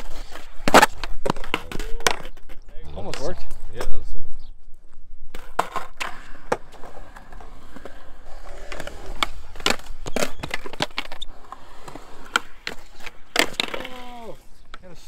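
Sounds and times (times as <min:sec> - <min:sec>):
skateboard clacking on ground: 0:00.0 - 0:04.0, 0:05.3 - 0:15.0
skateboard wheels rolling on concrete: 0:00.0 - 0:04.1, 0:04.8 - 0:15.0.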